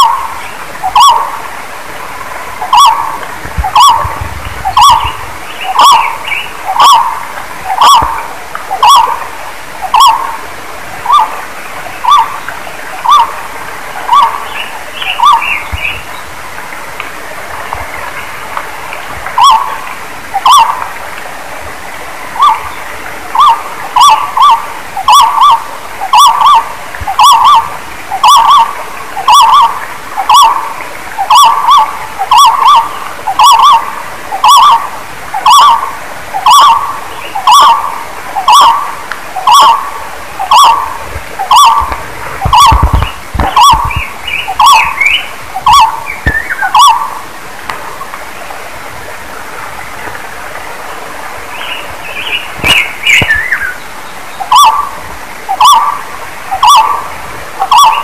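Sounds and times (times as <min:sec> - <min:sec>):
barbet calling: 0:00.0 - 0:01.5, 0:02.6 - 0:10.4, 0:11.0 - 0:16.3, 0:19.4 - 0:20.8, 0:22.4 - 0:47.3, 0:51.5 - 0:58.0
steady hiss: 0:00.0 - 0:58.0.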